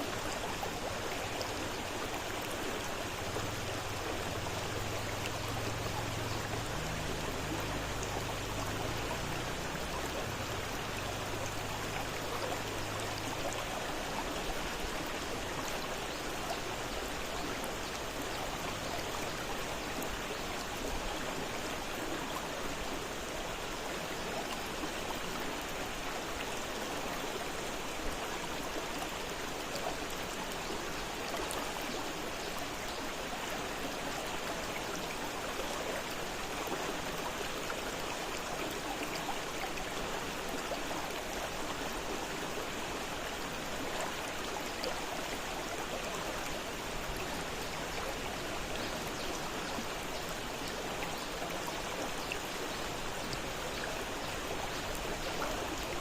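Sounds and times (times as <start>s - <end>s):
river water rushing and splashing: 0.0s - 56.0s.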